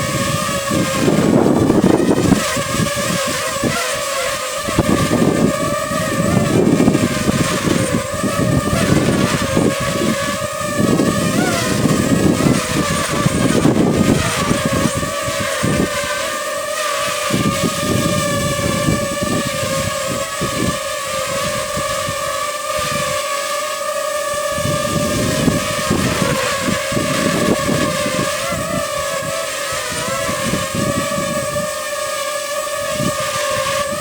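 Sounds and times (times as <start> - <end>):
drone propeller whine: 0.0 - 34.0
wind buffeting microphone: 0.0 - 34.0.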